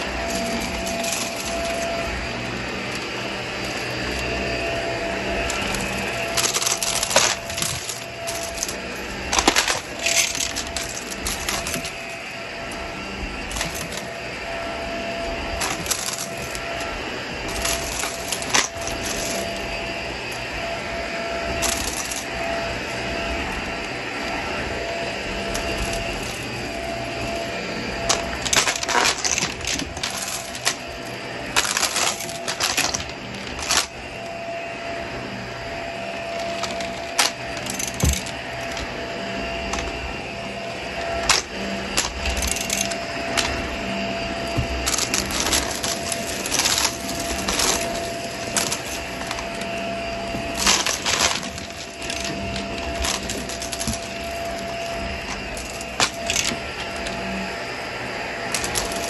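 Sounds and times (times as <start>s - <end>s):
debris rattling through vacuum: 0.0s - 59.0s
vacuum cleaner running: 0.0s - 59.0s.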